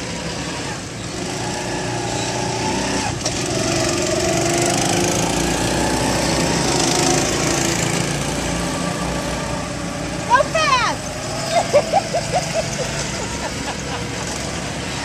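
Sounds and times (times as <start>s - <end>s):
go-kart engines running: 0.0s - 15.0s.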